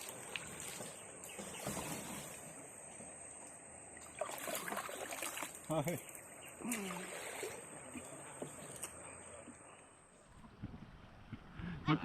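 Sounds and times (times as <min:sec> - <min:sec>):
stream water flowing: 0:00.0 - 0:10.3.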